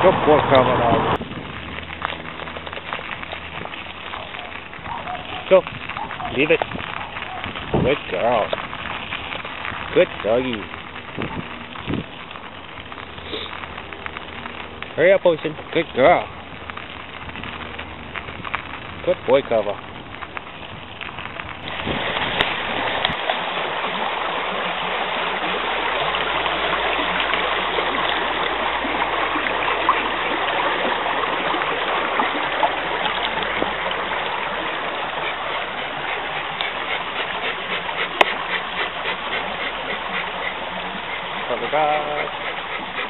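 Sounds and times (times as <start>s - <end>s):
creek water running: 0.0s - 43.0s.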